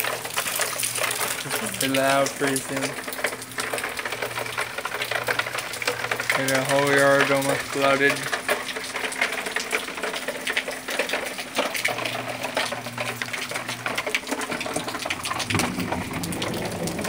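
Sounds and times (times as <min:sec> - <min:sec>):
rain splashing on hard surfaces: 0:00.0 - 0:17.0.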